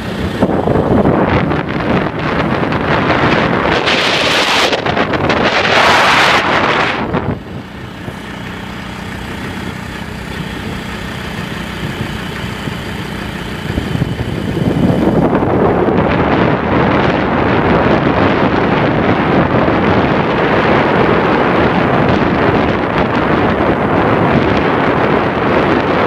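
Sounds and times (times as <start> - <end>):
vehicle engine hum: 0.0 - 26.0
wind buffeting microphone: 0.0 - 26.0.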